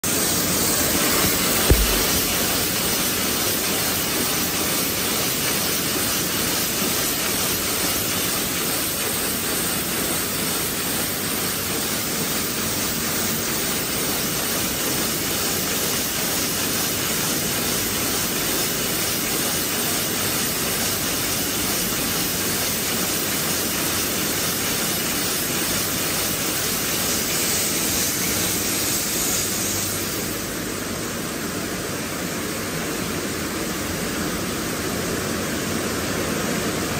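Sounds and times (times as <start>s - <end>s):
machine hiss and whir: 0.0s - 36.9s.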